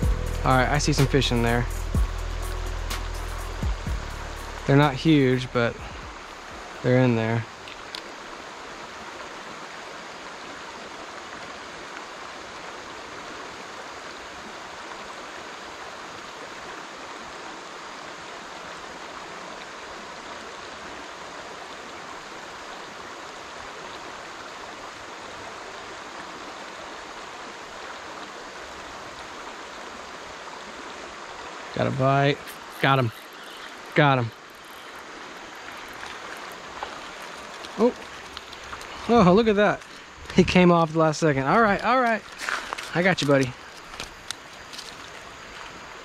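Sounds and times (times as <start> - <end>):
creek water running over rocks: 0.0 - 46.0.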